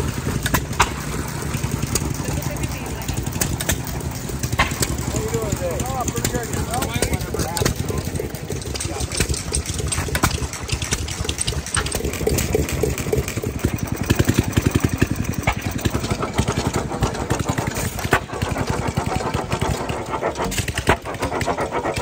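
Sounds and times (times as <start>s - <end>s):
stationary engines chugging: 0.0s - 22.0s.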